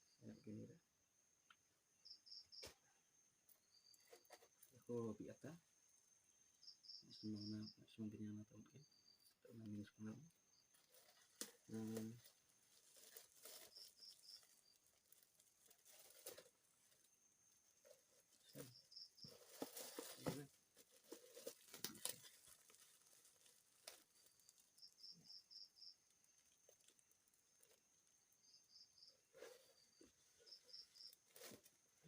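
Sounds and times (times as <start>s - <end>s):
high insect chirps: 0.0s - 32.0s.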